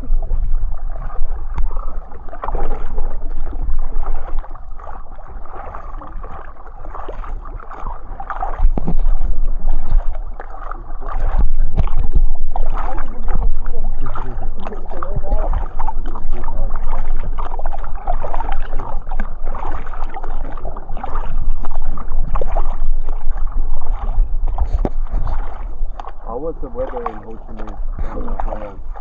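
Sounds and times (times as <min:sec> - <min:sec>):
water splashing around a boat: 0:00.0 - 0:29.0
wind rumbling on microphone: 0:00.0 - 0:29.0.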